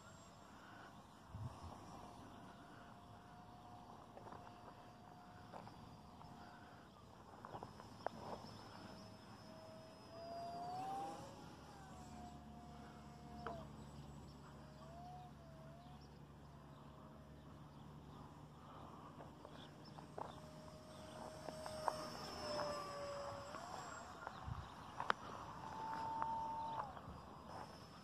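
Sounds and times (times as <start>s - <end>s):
rc plane electric motor buzz: 0.3s - 16.1s, 18.7s - 28.0s.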